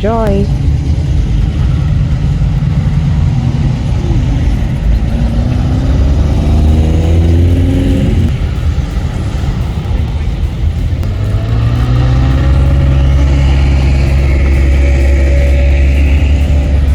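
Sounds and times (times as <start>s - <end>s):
car engines rumbling: 0.0s - 16.9s
car accelerating away: 0.5s - 16.9s.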